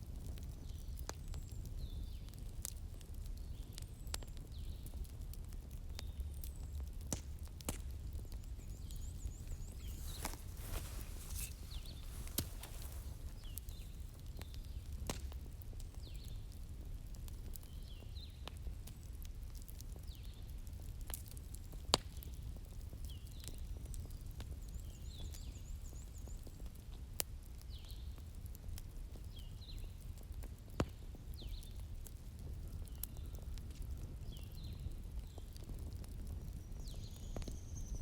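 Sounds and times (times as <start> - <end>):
bonfire crackling and popping: 0.0 - 38.0.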